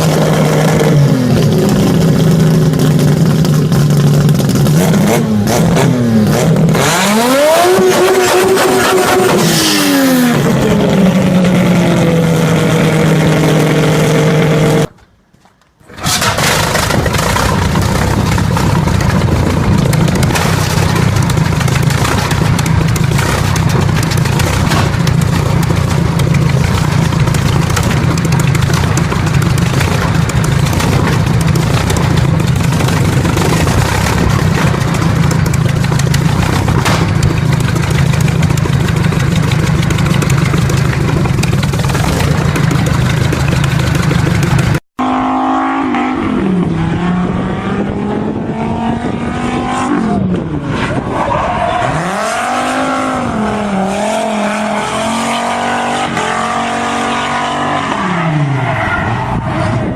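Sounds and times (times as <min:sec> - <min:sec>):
engine revving: 0:00.0 - 0:14.9, 0:16.0 - 0:58.6
loud vehicle engine running: 0:00.0 - 0:15.0, 0:16.0 - 0:50.7.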